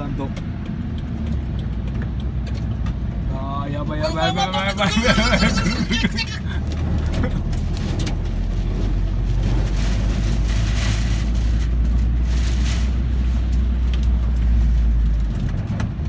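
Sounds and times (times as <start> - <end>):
road noise inside a car: 0.0 - 16.0.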